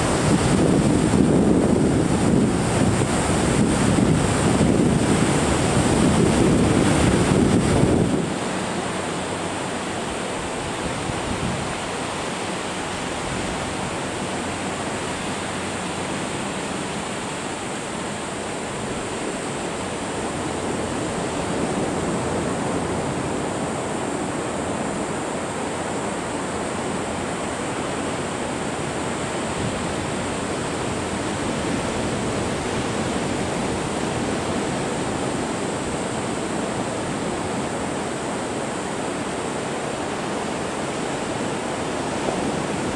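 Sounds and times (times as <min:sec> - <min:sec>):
ocean surf breaking: 0:00.0 - 0:42.9.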